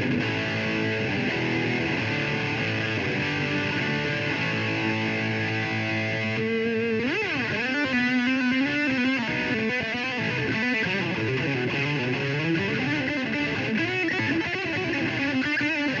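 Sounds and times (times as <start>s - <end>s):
distorted electric guitar lead: 0.0s - 16.0s.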